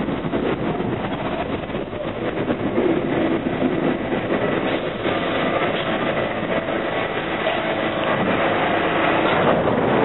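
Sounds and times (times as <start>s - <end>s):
subway train wheels on rails: 0.0s - 10.0s.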